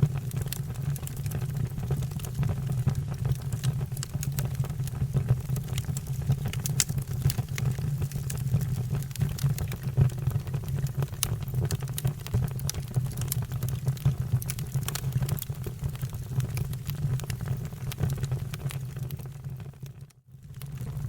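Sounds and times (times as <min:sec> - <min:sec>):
fire crackling and popping: 0:00.0 - 0:21.0
low fire rumble: 0:00.0 - 0:21.0.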